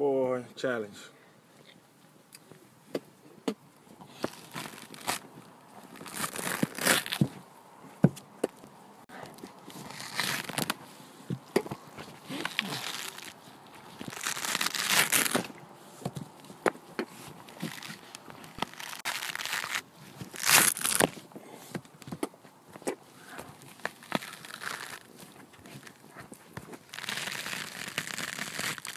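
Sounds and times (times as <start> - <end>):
fibre snapping: 2.3 - 7.4, 9.2 - 28.9
teeth tearing coconut husk: 3.4 - 7.3, 8.4 - 28.9.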